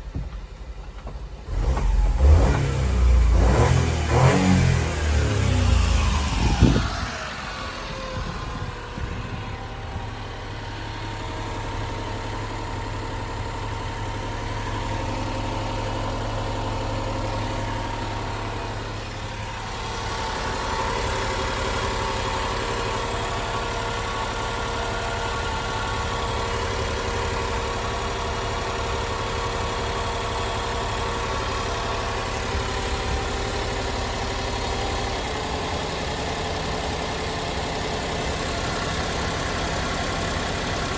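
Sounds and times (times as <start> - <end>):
truck engine idling: 4.7 - 40.9.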